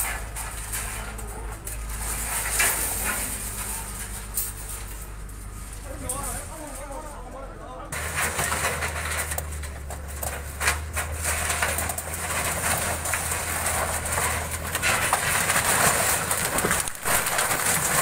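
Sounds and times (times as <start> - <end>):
boards and steel cracking: 0.0 - 18.0
diesel engine humming: 0.0 - 18.0.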